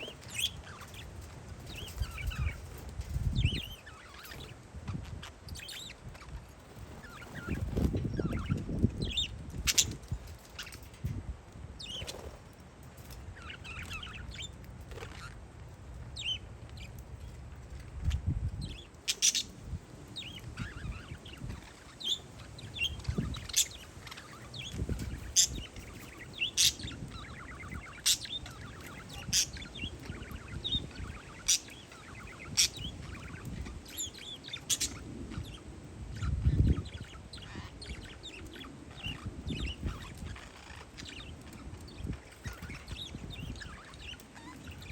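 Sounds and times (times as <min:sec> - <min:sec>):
wind gusts on microphone: 0:00.0 - 0:15.3, 0:15.9 - 0:44.9
parakeets chirping: 0:00.0 - 0:44.9.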